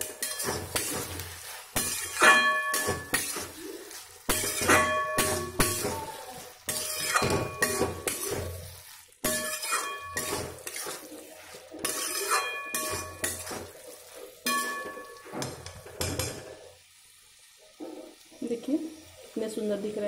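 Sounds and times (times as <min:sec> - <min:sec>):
metal spatula scraping pan: 0:00.0 - 0:16.6.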